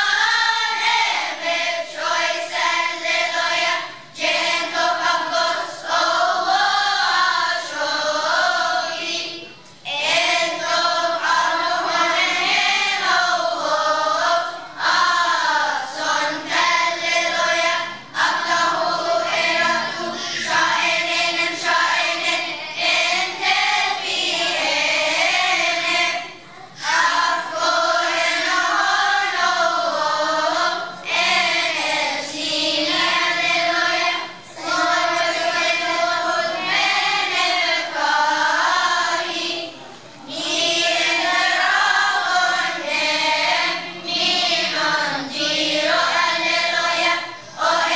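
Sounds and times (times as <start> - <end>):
children's choir singing: 0.0 - 47.9.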